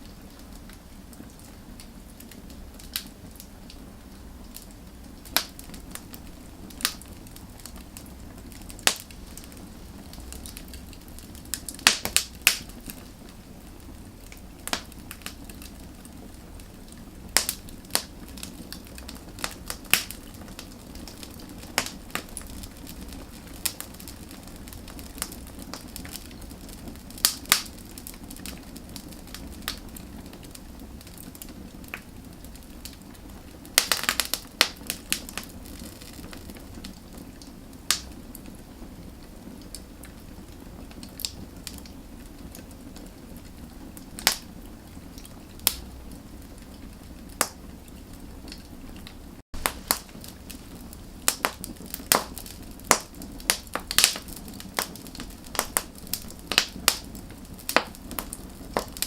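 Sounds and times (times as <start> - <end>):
fire crackling and popping: 0.0 - 59.0
flame rushing: 0.0 - 59.0.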